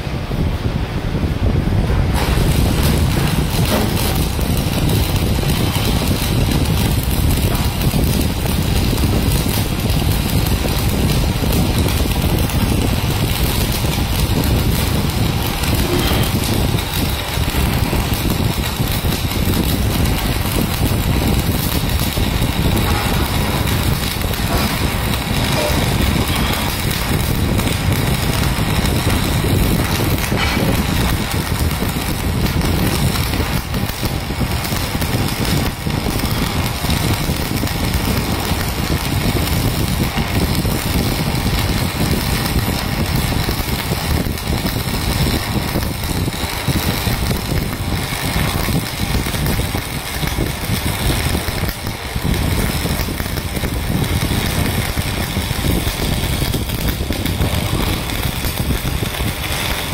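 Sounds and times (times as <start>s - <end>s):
welding arc crackling: 0.0s - 59.9s.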